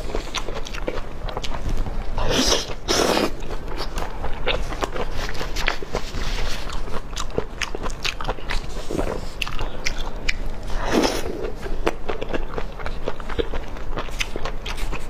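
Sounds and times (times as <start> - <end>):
crunching and chewing food: 0.0 - 15.0.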